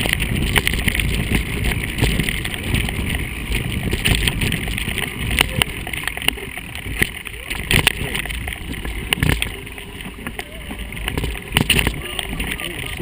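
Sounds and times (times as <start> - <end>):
bike rattling knocks: 0.0 - 13.0
bike tyres rumbling on trail: 0.0 - 13.0
wind on microphone: 0.0 - 13.0.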